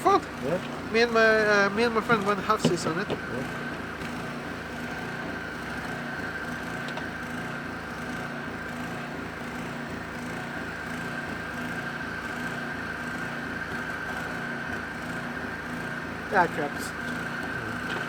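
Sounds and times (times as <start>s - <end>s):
motor humming with whine: 0.0s - 18.0s.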